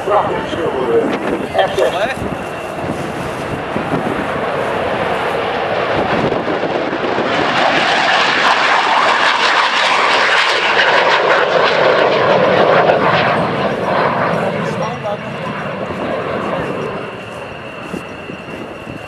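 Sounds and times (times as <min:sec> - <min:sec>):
jet engine rushing: 0:00.0 - 0:19.0.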